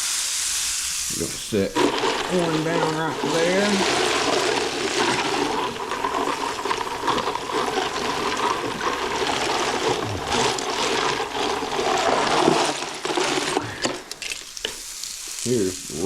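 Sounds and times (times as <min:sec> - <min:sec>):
fish sizzling on a griddle: 0:00.0 - 0:16.0.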